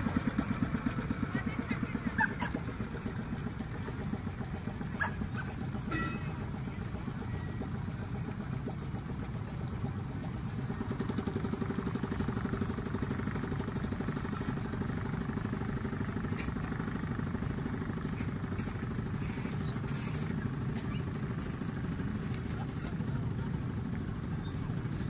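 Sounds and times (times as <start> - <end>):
boat engine puttering: 0.0 - 25.0.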